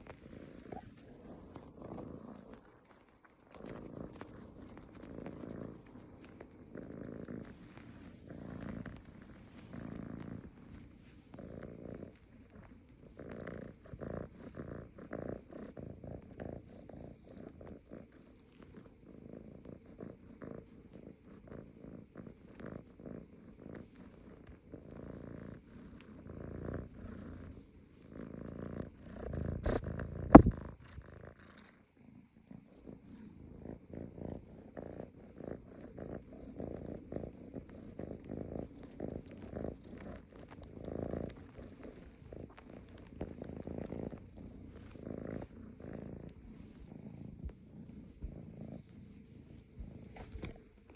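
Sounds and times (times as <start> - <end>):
cat purring: 0.0 - 50.9.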